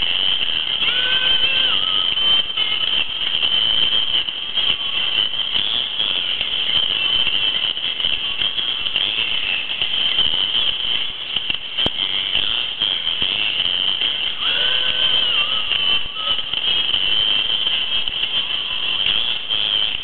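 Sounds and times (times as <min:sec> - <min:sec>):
toy song through tinny speaker: 0:00.0 - 0:20.0.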